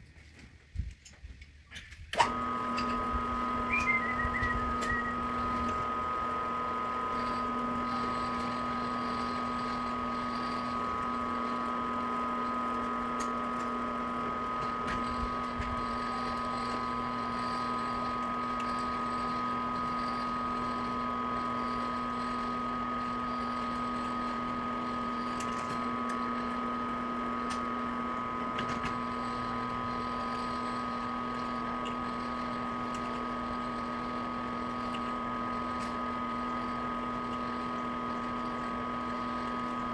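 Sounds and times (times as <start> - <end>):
machine humming with whine: 2.2 - 39.9.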